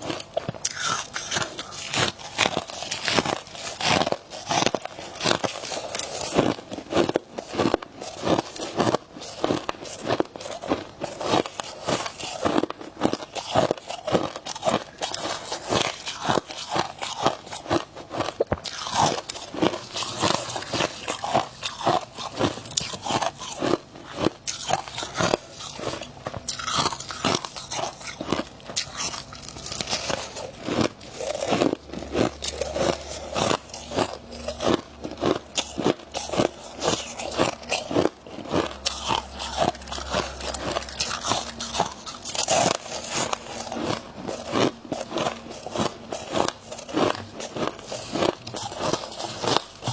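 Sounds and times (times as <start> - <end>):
crunching and chewing frost: 0.0 - 49.9.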